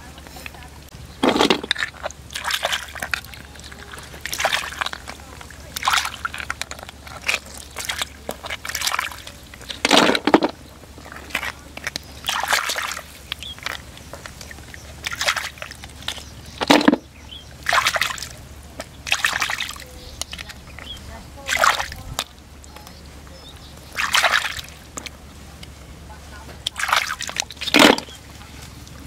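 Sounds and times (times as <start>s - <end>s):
water sloshing and splashing: 0.0s - 29.0s.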